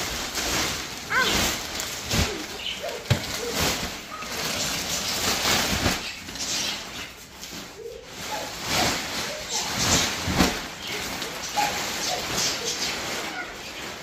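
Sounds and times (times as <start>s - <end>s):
plastic wrap rustling and crinkling: 0.0s - 14.0s.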